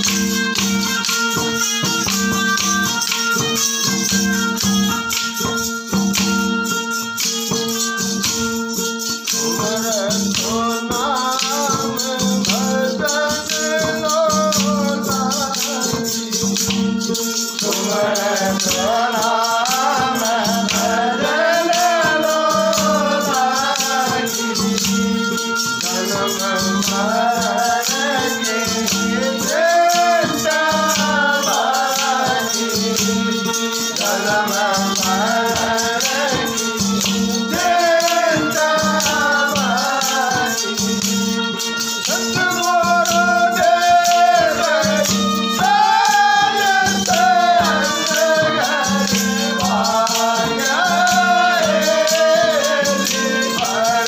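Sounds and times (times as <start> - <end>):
wooden clappers jingling: 0.0 - 54.0
man singing devotional song: 8.7 - 54.0.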